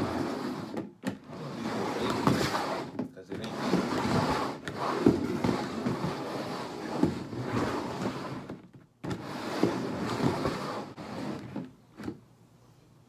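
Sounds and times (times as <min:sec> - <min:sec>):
plastic bowls scraping on table: 0:00.0 - 0:11.7.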